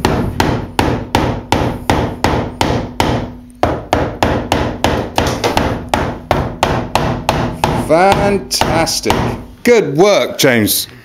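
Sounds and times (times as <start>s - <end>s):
hammer driving tack into wood: 0.0s - 9.4s.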